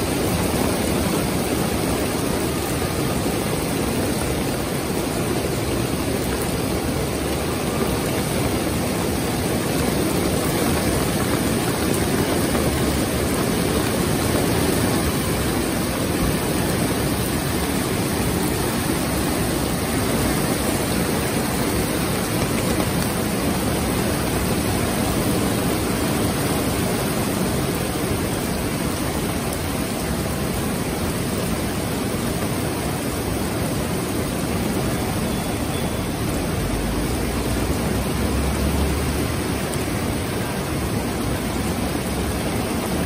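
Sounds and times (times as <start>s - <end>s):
heavy rain on street and cars: 0.0s - 43.0s.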